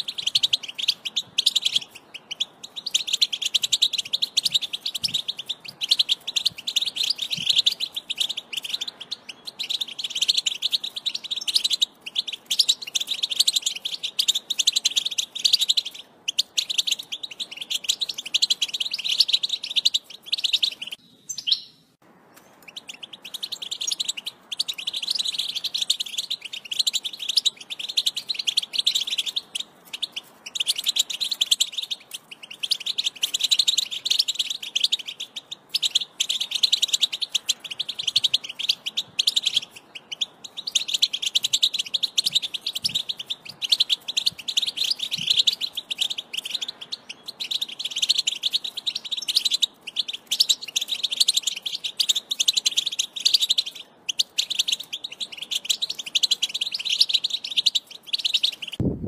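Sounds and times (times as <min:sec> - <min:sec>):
goldfinch twittering song: 0:00.0 - 0:21.8, 0:22.4 - 0:58.8.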